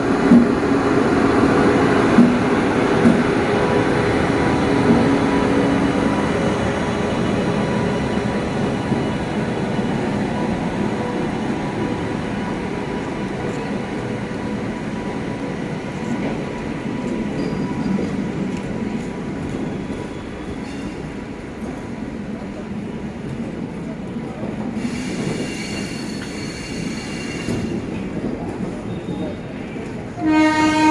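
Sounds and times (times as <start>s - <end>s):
train coaches rumbling over rails: 0.0s - 30.9s.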